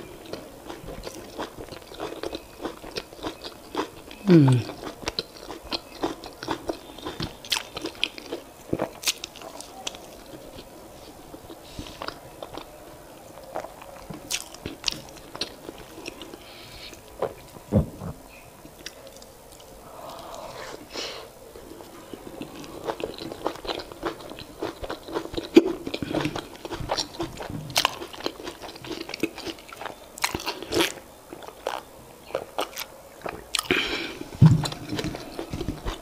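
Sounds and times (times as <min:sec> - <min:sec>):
person chewing food: 0:00.0 - 0:20.8, 0:21.6 - 0:36.0.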